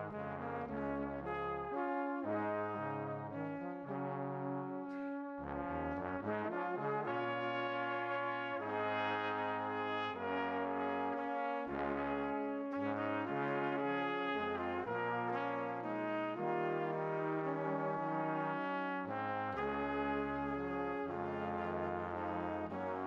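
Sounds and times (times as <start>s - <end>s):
brass melody: 0.0s - 23.0s.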